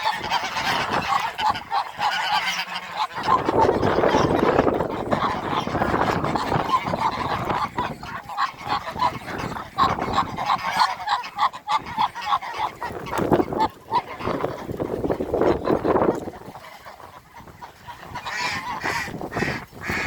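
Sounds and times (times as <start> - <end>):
waterfowl calling: 0.0 - 20.0.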